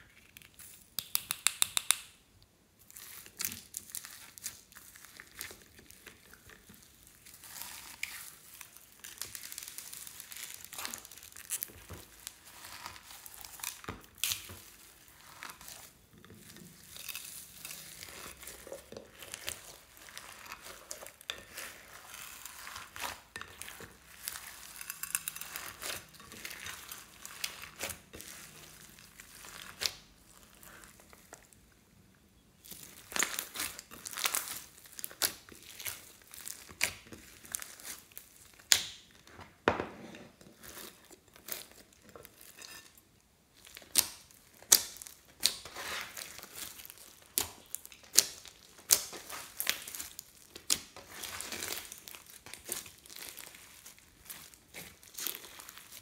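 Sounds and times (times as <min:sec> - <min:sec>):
squeezing crackly slime: 0:02.8 - 0:31.7, 0:32.6 - 0:39.3, 0:43.5 - 0:56.0.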